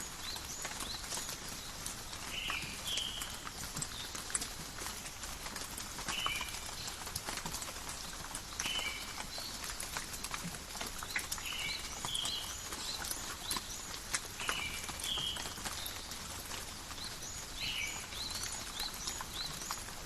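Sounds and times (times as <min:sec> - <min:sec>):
rain in a forest: 0:00.0 - 0:20.0
raindrops tapping: 0:00.0 - 0:20.0.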